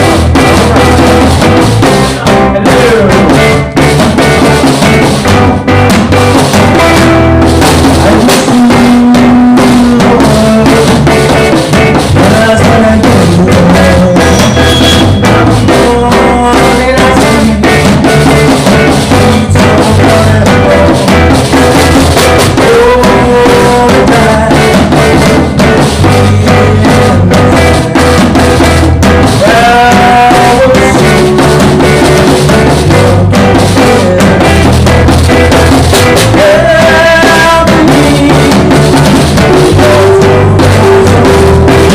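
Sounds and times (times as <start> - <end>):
drum kit: 0.0 - 41.9
live band playing: 0.0 - 41.9
person singing: 0.0 - 41.9.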